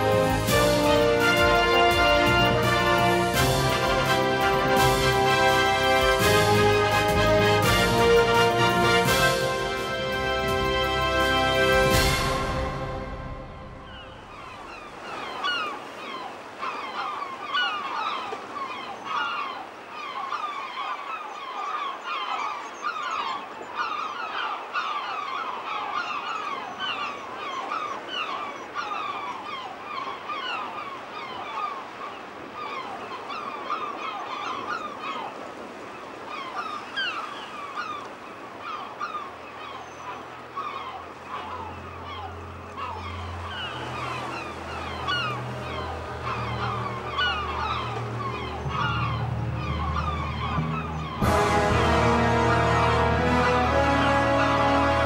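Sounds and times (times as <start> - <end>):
gulls calling: 0.0 - 55.0.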